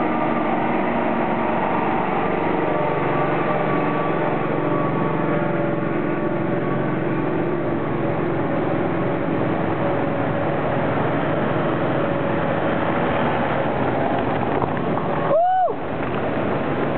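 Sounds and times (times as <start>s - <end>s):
rocky creek rushing: 0.0s - 16.9s
van engine running: 0.0s - 16.9s.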